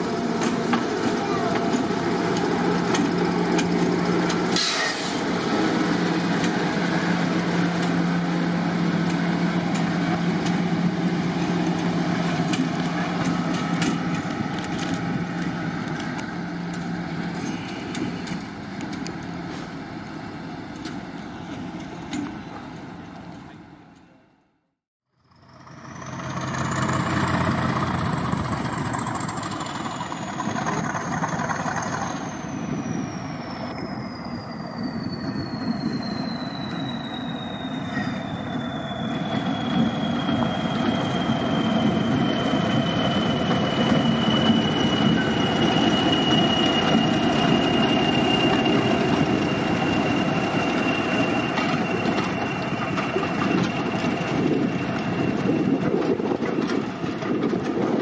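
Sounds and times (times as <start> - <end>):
train high whine: 0.0 - 24.4, 25.2 - 58.0
diesel locomotive engine: 0.0 - 58.0.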